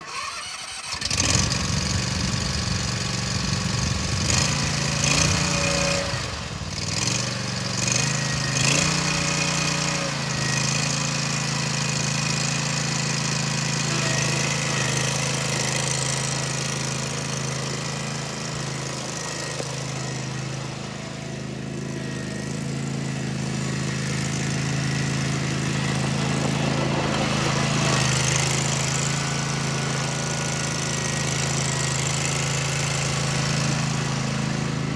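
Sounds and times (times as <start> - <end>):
mower engine running: 0.0 - 34.9.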